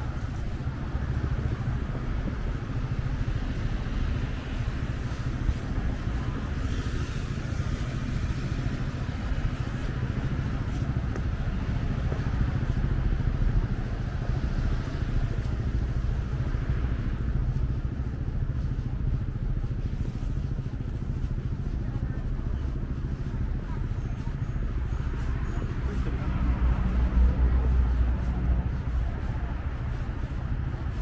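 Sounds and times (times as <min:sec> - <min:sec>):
motor traffic rumble: 0:00.0 - 0:31.0.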